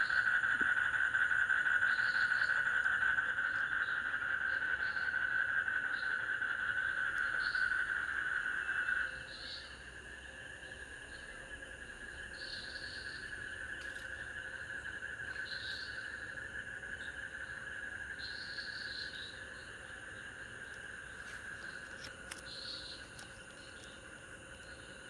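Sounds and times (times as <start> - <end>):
insect chirp: 0.0 - 25.0
insects buzzing drone: 0.0 - 25.0.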